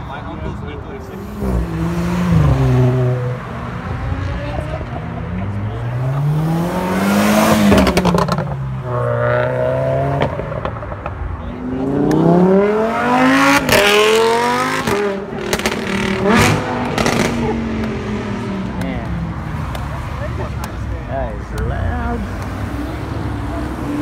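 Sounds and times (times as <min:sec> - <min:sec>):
sports car engines accelerating: 0:00.2 - 0:24.0.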